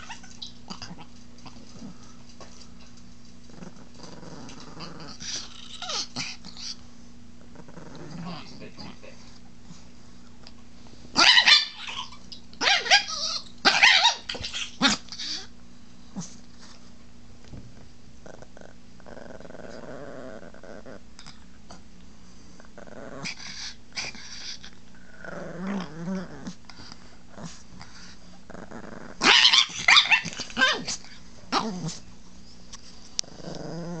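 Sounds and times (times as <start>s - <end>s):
small dog growling: 0.0s - 2.2s, 3.4s - 6.8s, 7.4s - 9.9s, 11.1s - 16.4s, 18.2s - 21.8s, 22.6s - 32.1s, 33.2s - 34.0s.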